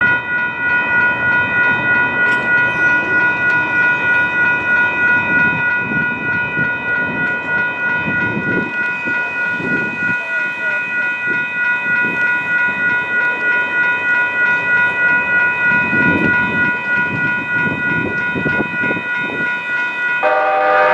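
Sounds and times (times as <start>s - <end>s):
crossing warning bell ringing: 0.0s - 20.9s
train rumble and rail clatter: 0.0s - 20.9s.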